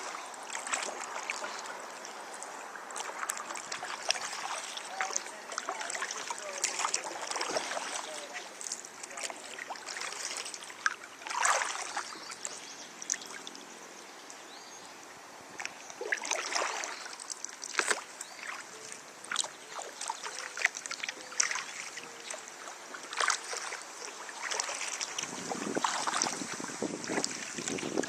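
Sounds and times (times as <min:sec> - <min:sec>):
paddle strokes splashing: 0:00.0 - 0:14.4, 0:15.4 - 0:28.0.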